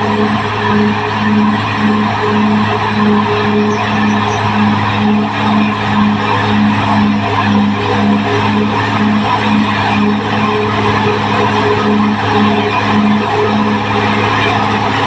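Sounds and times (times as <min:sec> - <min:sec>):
bulldozer diesel engine running: 0:00.0 - 0:15.0
pulsing hum: 0:00.0 - 0:15.0.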